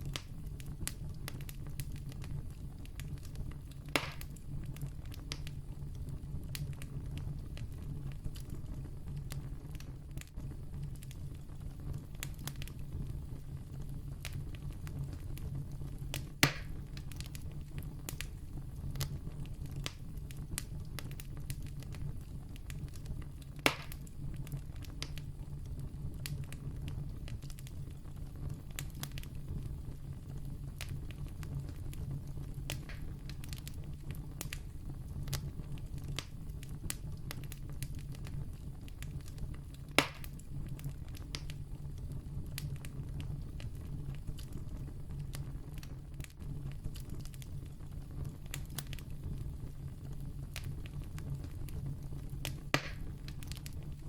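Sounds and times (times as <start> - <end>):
campfire snaps: 0.0 - 54.0
low rumble of flames: 0.0 - 54.0
sharp fire pops: 0.0 - 54.0.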